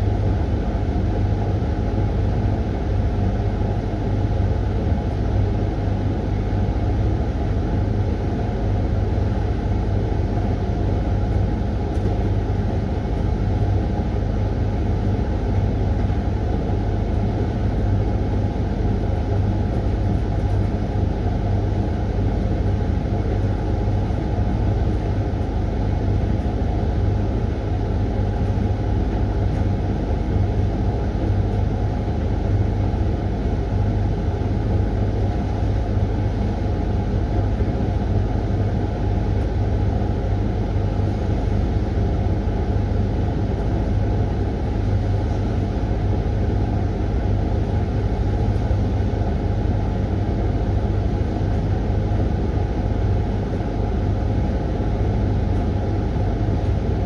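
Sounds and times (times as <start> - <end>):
tumble dryer droning: 0.0 - 57.0.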